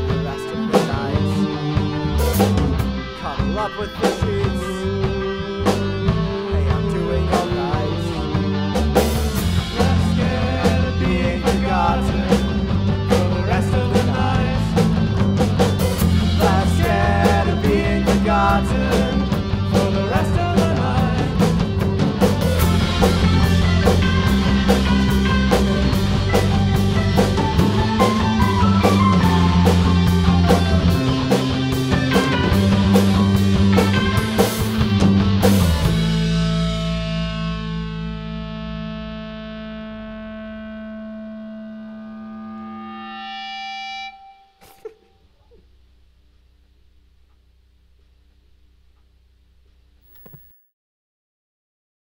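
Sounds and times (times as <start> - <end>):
rock band playing: 0.0 - 44.7.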